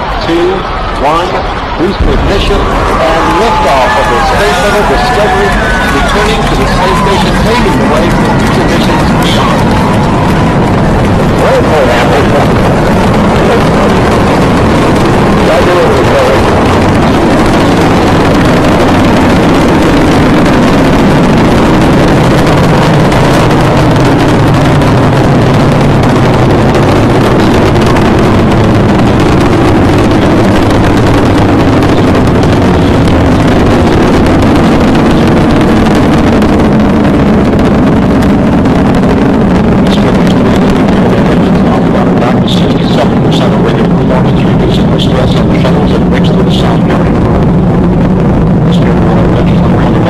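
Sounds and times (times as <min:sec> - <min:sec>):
rocket engines roaring: 0:00.0 - 0:50.0.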